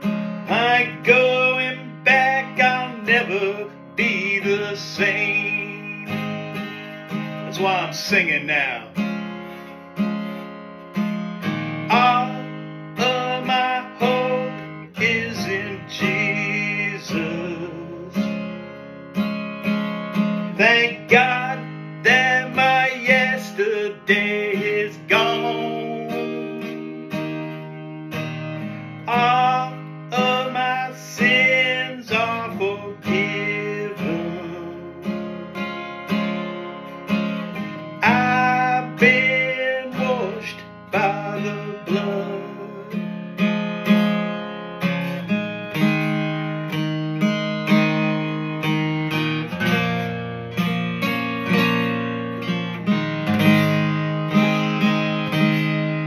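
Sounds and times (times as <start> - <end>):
acoustic guitar strummed: 0.0 - 56.0.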